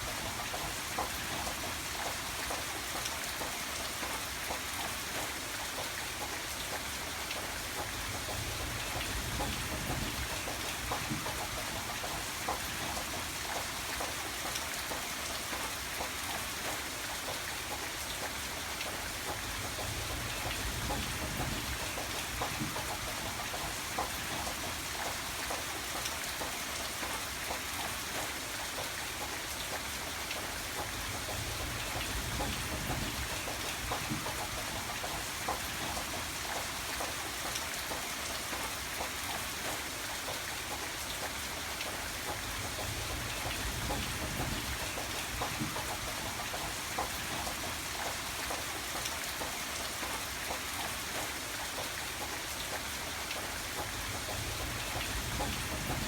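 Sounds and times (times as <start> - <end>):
rain drops pattering on hard surface: 0.0 - 56.0.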